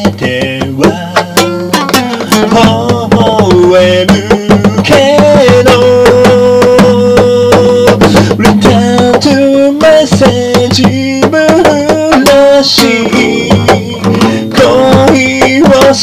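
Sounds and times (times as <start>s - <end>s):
percussive beat: 0.0s - 16.0s.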